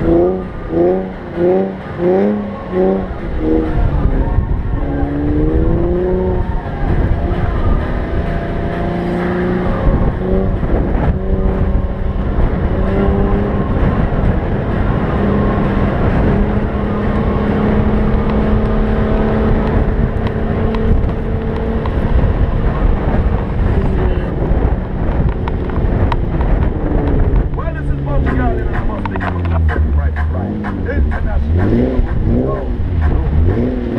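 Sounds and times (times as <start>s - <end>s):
car engine revving under load: 0.0s - 33.9s
steady low rush: 0.0s - 33.9s.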